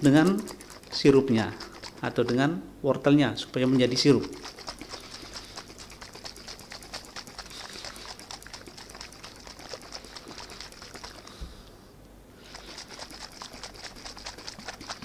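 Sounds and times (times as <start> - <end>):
liquid sloshing in shaken bottle: 0.0 - 2.5, 3.5 - 11.4, 12.4 - 15.0.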